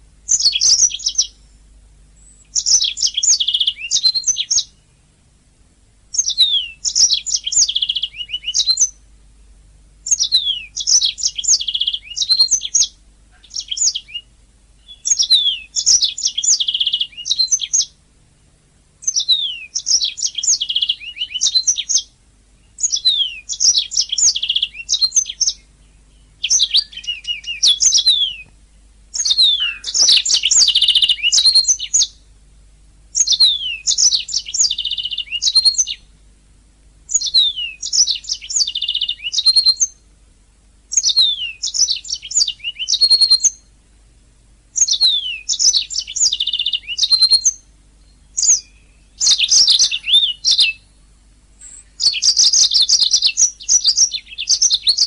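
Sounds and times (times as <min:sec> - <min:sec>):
canary singing trills: 0:00.0 - 0:05.2, 0:06.1 - 0:09.1, 0:10.0 - 0:18.0, 0:19.0 - 0:32.3, 0:33.1 - 0:36.2, 0:37.1 - 0:40.2, 0:40.9 - 0:43.8, 0:44.7 - 0:55.0.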